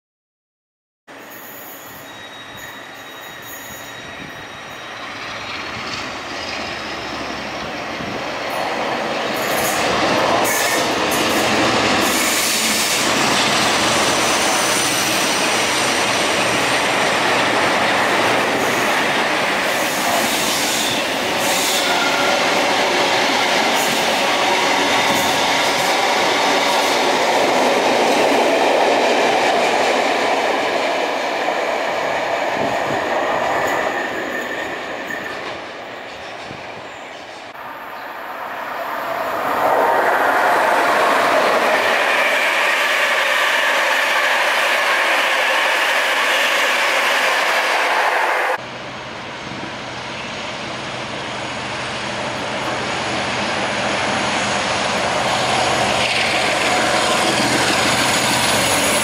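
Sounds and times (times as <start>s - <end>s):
passenger train passing: 1.1s - 59.0s.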